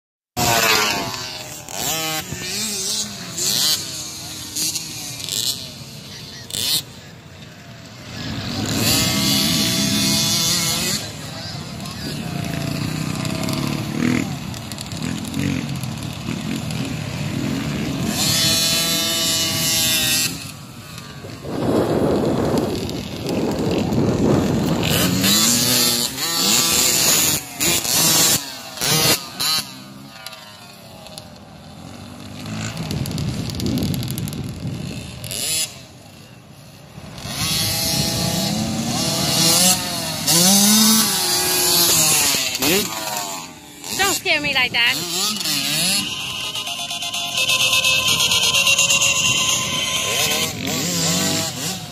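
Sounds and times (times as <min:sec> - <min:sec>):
dirt bike engines revving: 0:00.4 - 0:51.9.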